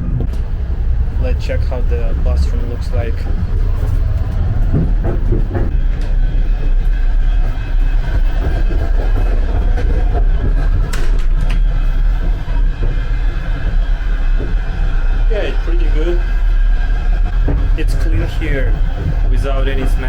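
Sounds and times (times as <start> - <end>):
train carriage rumbling on rails: 0.0 - 20.0.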